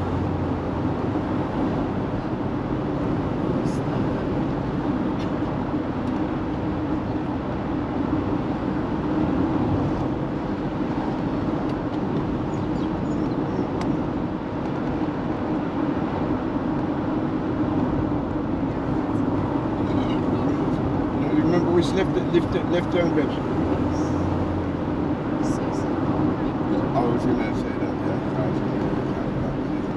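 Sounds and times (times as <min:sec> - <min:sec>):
road and engine noise in van: 0:00.0 - 0:29.9.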